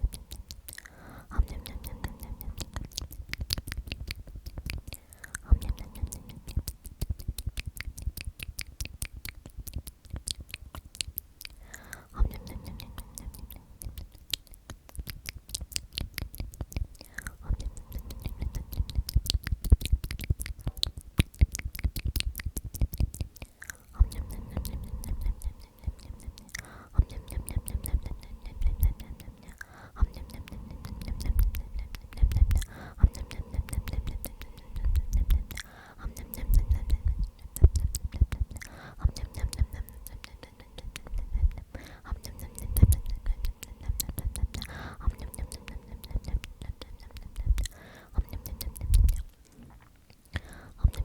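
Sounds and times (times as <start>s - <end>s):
person whispering: 0.0s - 7.9s, 11.4s - 21.4s, 22.8s - 51.0s
wet mouth clicks and lip smacks: 0.0s - 51.0s.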